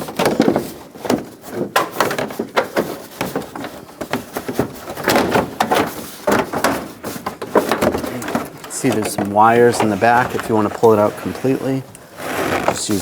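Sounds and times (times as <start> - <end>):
plastic liner clacking: 0.0 - 13.0
plastic scraping and rustling: 0.0 - 13.0.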